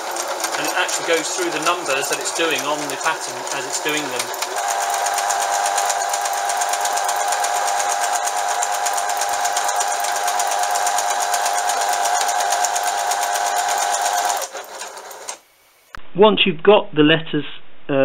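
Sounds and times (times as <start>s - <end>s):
sewing machine stitching: 0.0s - 15.4s.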